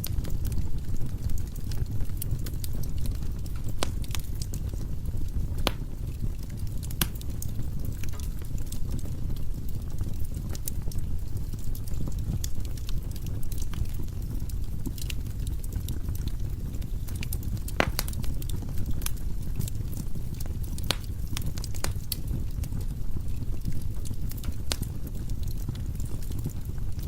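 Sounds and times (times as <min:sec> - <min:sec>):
logs crackling and popping: 0:00.0 - 0:27.0
low rumble of flames: 0:00.0 - 0:27.0.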